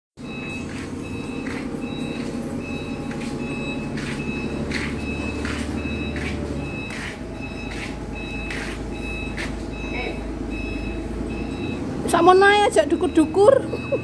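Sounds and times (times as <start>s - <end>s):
forklift engine running: 0.2s - 14.0s
reversing alarm beeping: 0.2s - 14.0s.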